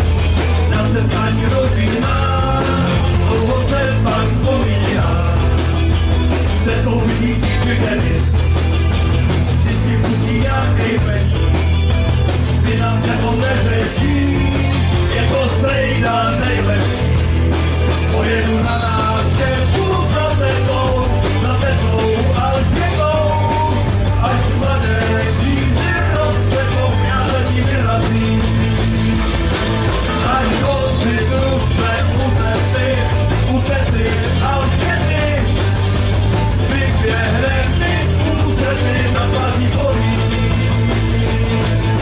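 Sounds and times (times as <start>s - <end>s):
live rock band playing: 0.0s - 42.0s
man singing: 0.5s - 8.5s, 9.4s - 11.6s, 12.5s - 17.3s, 18.0s - 29.4s, 30.1s - 35.7s, 36.5s - 42.0s.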